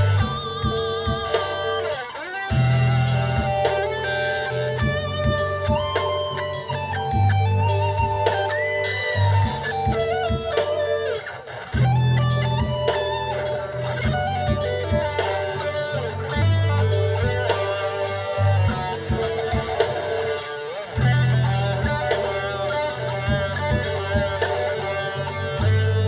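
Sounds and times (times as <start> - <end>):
bass notes: 0.0 - 26.0
electric guitar lead: 0.0 - 26.0
steady beat: 0.0 - 26.0.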